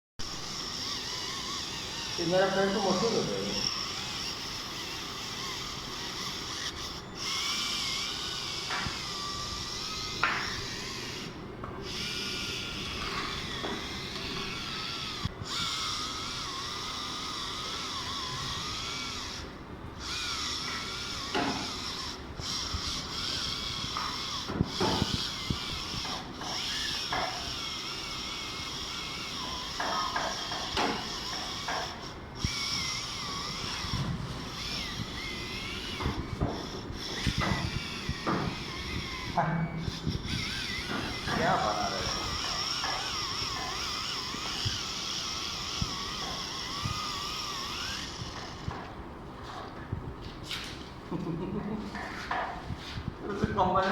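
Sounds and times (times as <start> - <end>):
electric foot file whirring: 0.2 - 49.7.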